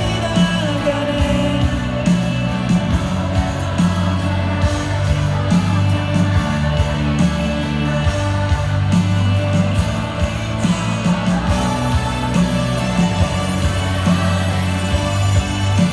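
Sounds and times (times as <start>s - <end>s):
live pop-rock band: 0.0s - 15.9s
person singing: 0.0s - 15.9s.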